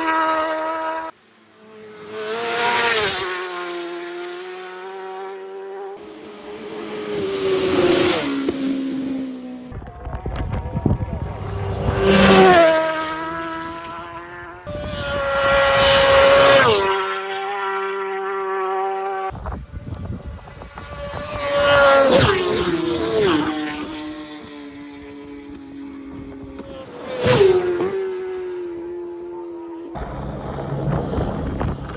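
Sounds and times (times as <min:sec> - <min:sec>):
racing motorcycles passing: 0:00.0 - 0:31.9.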